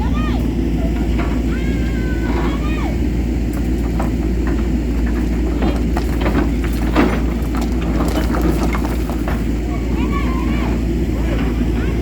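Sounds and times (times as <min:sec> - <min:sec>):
motor running: 0:00.0 - 0:12.0.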